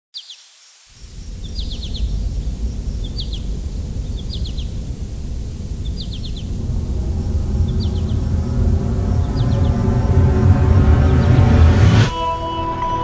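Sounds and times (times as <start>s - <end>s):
low rumble like wind: 1.0s - 12.1s
bird chirping phrase: 1.0s - 12.6s.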